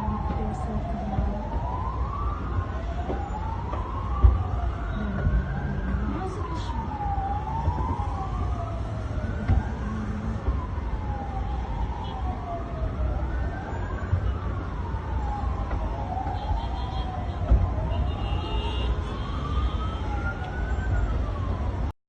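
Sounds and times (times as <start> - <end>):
emergency sirens wailing: 0.0 - 22.0.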